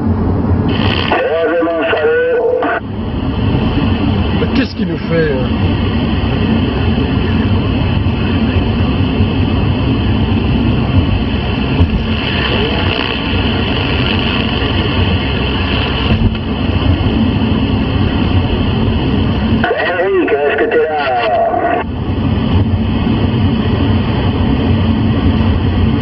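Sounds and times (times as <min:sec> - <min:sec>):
radio rushing noise: 0:00.5 - 0:26.0.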